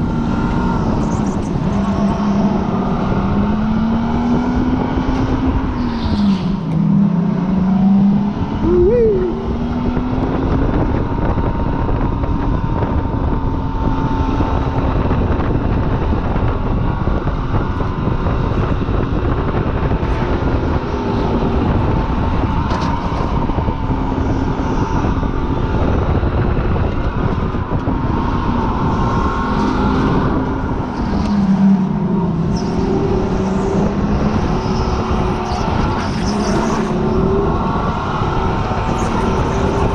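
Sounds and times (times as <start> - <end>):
car engine running hard: 0.0 - 39.9
wind and road noise: 0.0 - 39.9.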